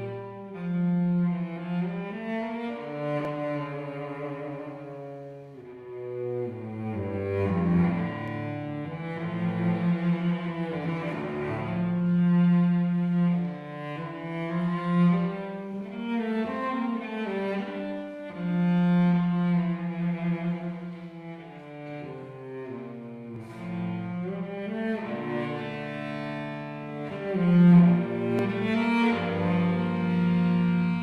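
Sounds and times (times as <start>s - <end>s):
cello bowing long notes: 0.0s - 31.0s.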